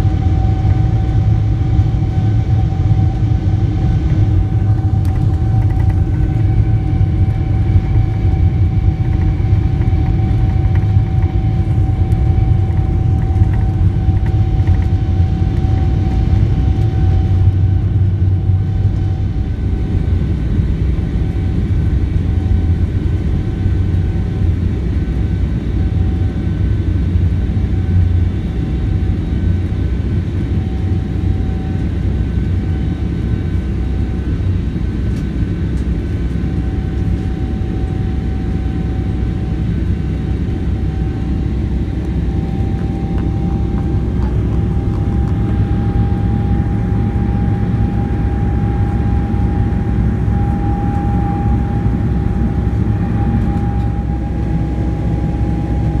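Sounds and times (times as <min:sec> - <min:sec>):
jet engine rumble in cabin: 0:00.0 - 0:56.0
jet engine whine: 0:00.0 - 0:56.0.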